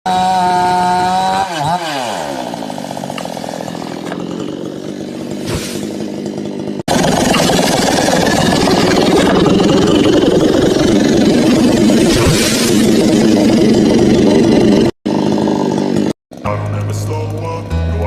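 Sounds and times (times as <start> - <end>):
chainsaw revving and idling: 0.1 - 18.0
rough engine sound: 0.1 - 18.0.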